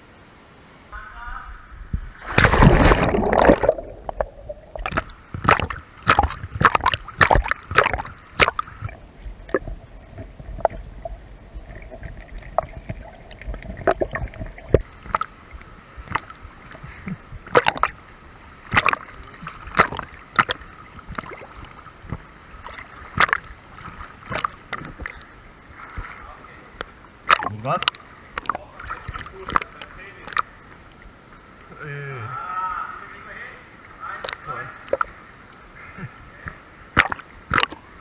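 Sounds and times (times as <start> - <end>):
muffled underwater splashes and gurgles: 1.9 - 31.1, 34.0 - 38.0.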